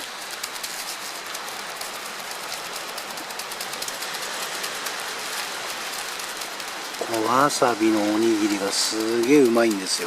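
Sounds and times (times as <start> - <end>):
light rain patter: 0.0 - 10.0.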